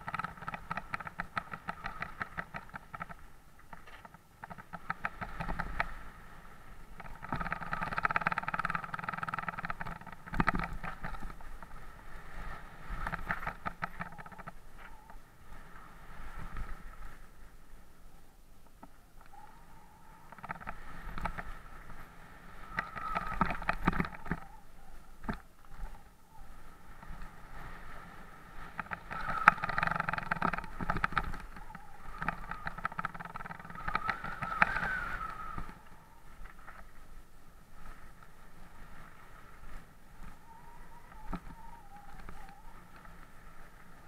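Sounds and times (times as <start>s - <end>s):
bike rattling over bumps: 0.0s - 17.6s, 18.8s - 26.2s, 26.8s - 44.0s
steady high whirr: 0.0s - 44.0s.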